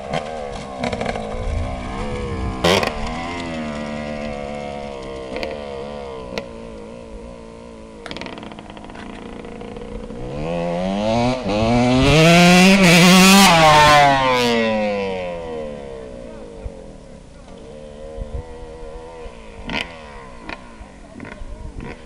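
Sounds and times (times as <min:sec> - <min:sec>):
dirt bike engine accelerating: 0:00.0 - 0:22.0.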